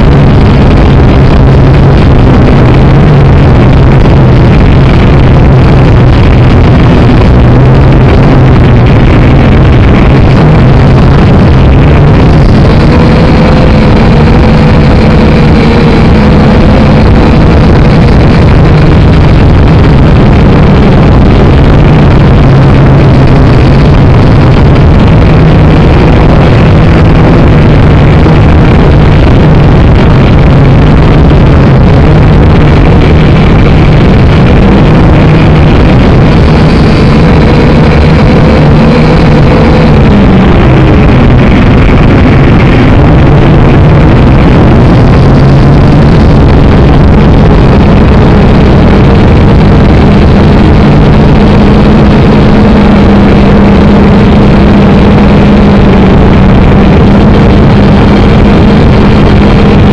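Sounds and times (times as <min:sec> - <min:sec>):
drone propellers whirring: 0:00.0 - 0:48.1.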